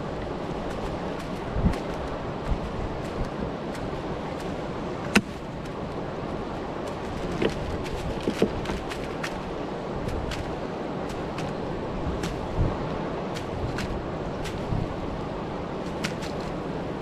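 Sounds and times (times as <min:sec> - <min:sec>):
churning river water: 0:00.0 - 0:17.0
wind rushing: 0:00.0 - 0:17.0.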